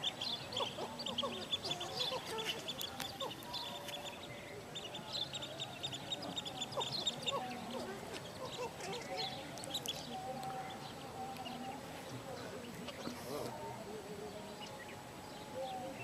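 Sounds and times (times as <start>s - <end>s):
waterbirds calling: 0.0s - 13.6s.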